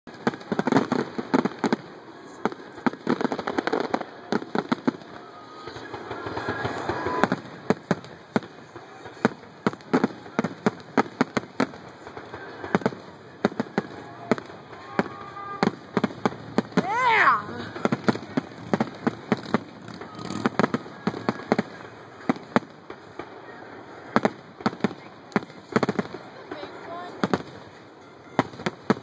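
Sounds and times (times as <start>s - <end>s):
fireworks bangs and booms: 0.1s - 29.0s
fireworks crackling: 0.1s - 29.0s.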